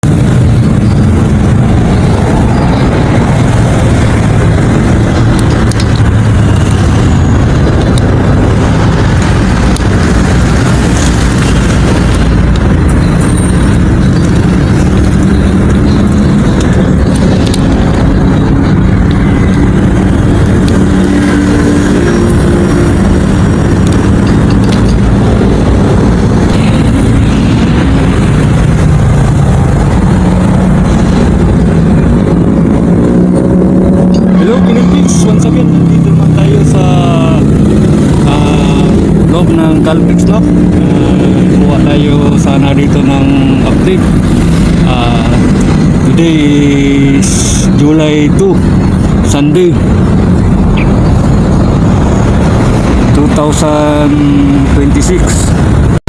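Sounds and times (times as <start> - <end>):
road and wind noise: 0.0 - 56.0
vehicle engine hum: 0.0 - 56.0.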